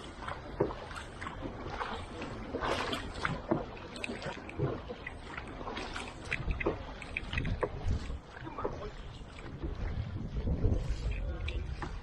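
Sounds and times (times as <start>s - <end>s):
paddles splashing through water: 0.0s - 12.0s.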